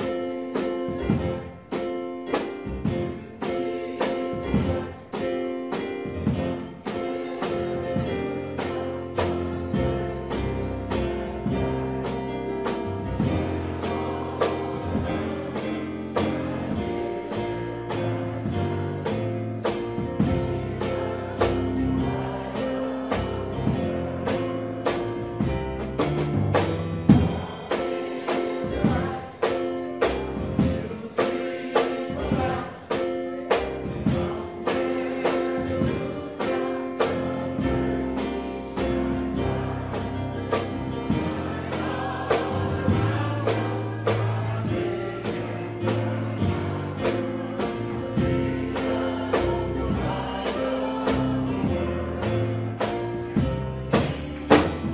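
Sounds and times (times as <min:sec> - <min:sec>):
drum beat: 0:00.0 - 0:54.9
gospel choir singing: 0:00.0 - 0:54.9
held instrumental chords: 0:00.0 - 0:54.9.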